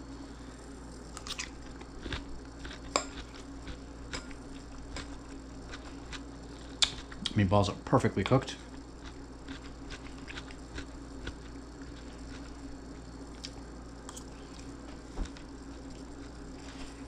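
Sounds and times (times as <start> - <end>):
steady low hum: 0.0 - 17.0
person chewing: 1.1 - 7.4, 9.0 - 17.0.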